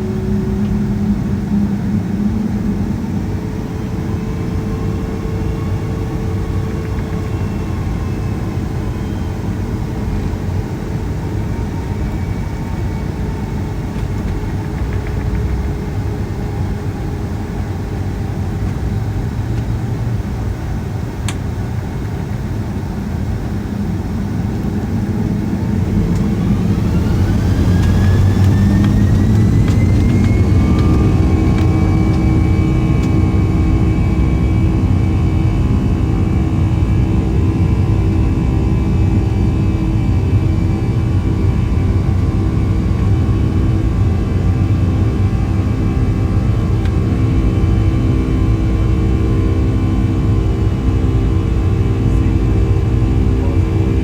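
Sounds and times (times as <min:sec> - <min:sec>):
jet engines rumbling in cabin: 0:00.0 - 0:54.0
rising engine whine: 0:00.0 - 0:54.0.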